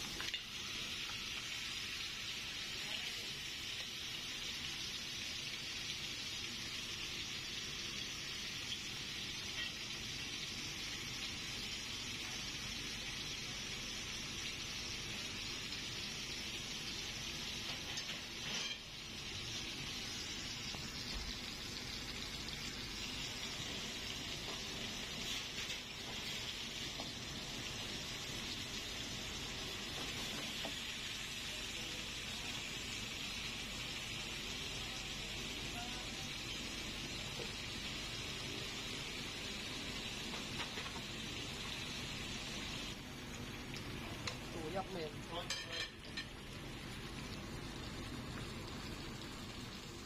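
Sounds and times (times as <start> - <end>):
steak sizzling in a pan: 0.0 - 50.0.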